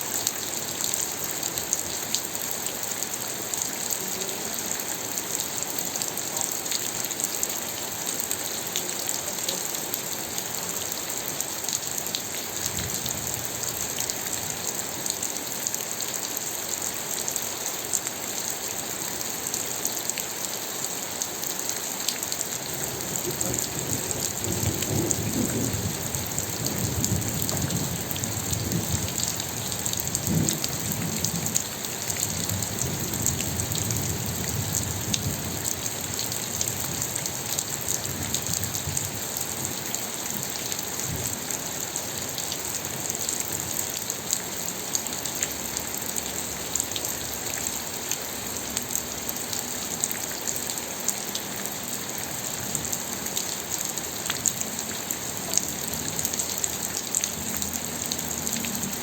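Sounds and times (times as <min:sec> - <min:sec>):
rain pattering on surface: 0:00.0 - 0:59.0.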